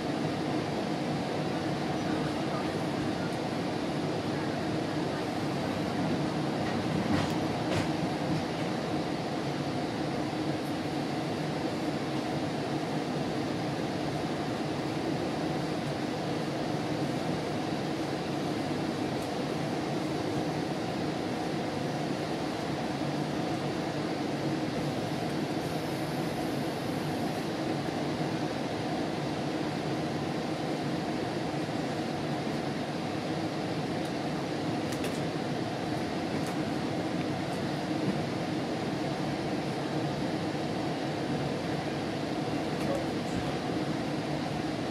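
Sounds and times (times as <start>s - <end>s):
train rumbling on tracks: 0.0s - 44.9s.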